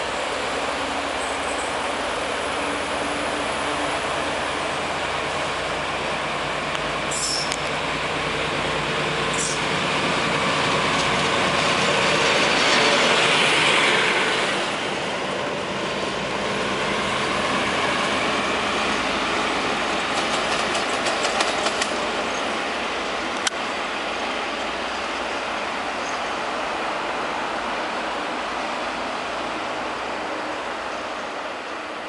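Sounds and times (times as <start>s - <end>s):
locomotive passing: 0.0s - 32.0s.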